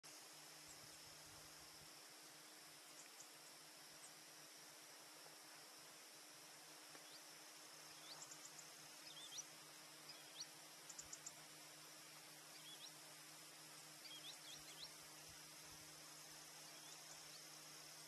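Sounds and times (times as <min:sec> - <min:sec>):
faint steady hiss: 0:00.0 - 0:18.0
small songbirds chirping: 0:00.0 - 0:18.0.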